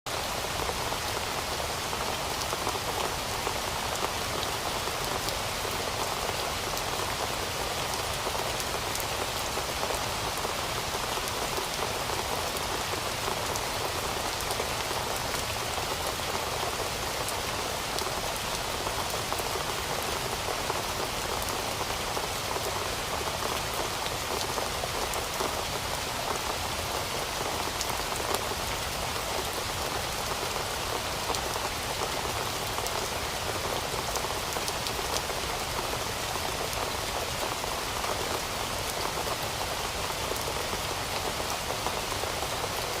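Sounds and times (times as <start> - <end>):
steady rain hissing: 0.1 - 43.0.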